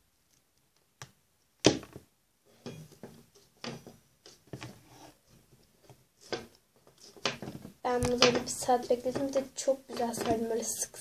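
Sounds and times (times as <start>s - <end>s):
rustling: 1.6s - 11.0s.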